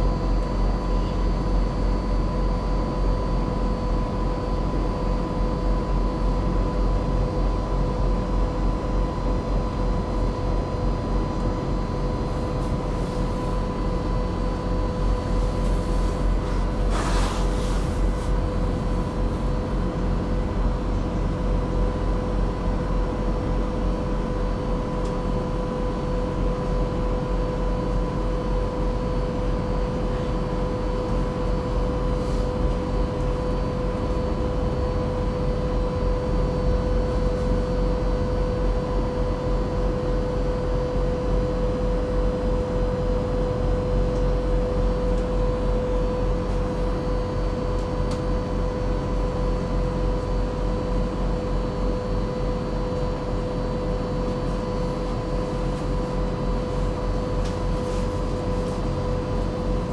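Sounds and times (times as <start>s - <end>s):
electrical hum with whine: 0.0s - 59.9s.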